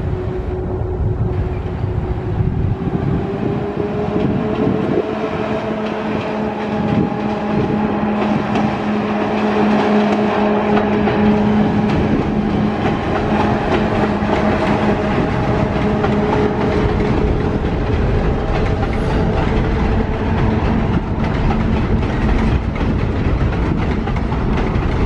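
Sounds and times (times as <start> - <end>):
locomotive engine drone: 0.0 - 25.0
train rumbling: 0.0 - 25.0
wheels clicking on rails: 3.6 - 25.0.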